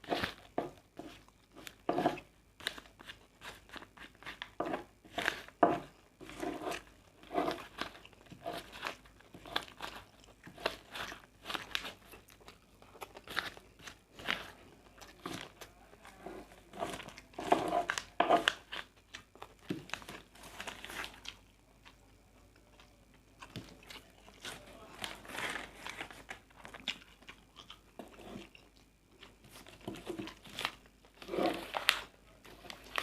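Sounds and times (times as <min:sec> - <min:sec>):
person chewing and crunching food: 0:00.0 - 0:33.0.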